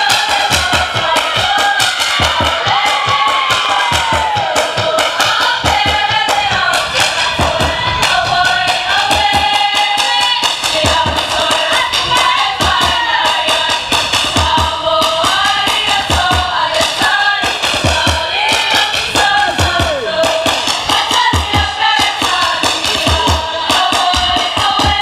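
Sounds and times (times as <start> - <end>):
drum beats: 0.0 - 25.0
girls singing in chorus: 0.0 - 25.0.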